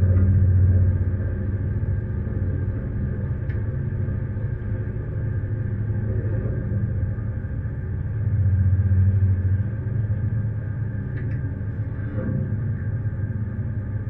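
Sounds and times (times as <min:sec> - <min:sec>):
ship engine droning: 0:00.0 - 0:14.0.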